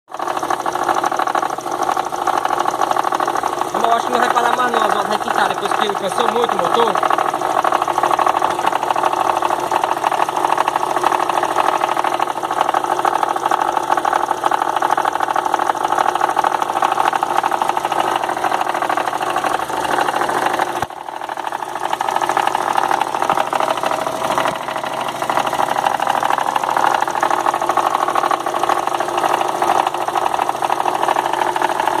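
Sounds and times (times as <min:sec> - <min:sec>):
car engine running: 0:00.1 - 0:32.0
rapid ticking rattle: 0:00.2 - 0:32.0.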